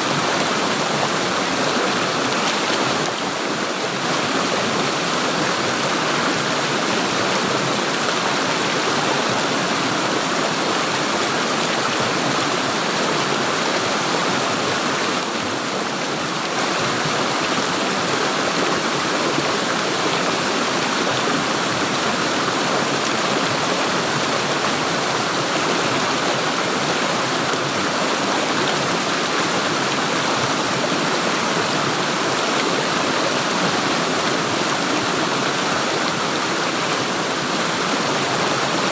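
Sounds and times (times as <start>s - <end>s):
running water gurgling: 0.0s - 38.9s.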